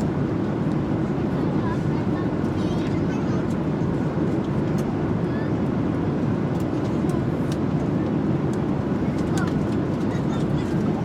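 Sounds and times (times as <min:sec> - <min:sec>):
jet engine cabin rush: 0:00.0 - 0:11.0.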